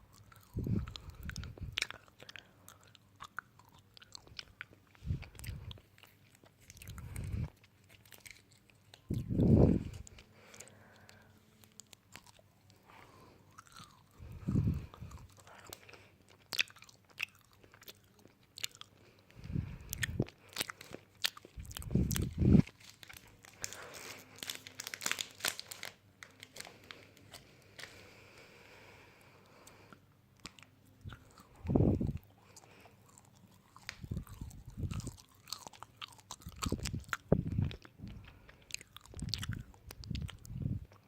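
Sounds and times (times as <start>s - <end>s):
crunchy chewing of crisp food: 0.0s - 41.0s.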